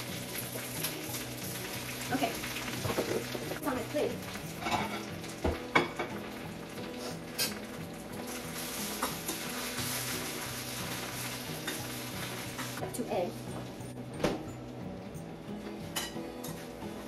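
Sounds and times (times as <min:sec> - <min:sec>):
spinach sizzling in a frying pan: 0:00.0 - 0:13.9.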